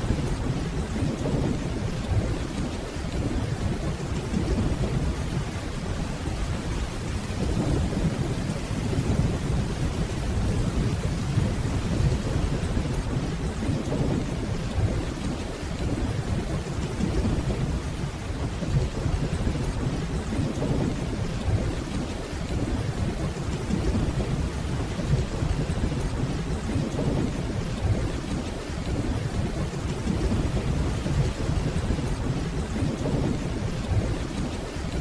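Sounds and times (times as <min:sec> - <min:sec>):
distant rolling thunder: 0:00.0 - 0:35.0
steady rainfall: 0:00.0 - 0:35.0.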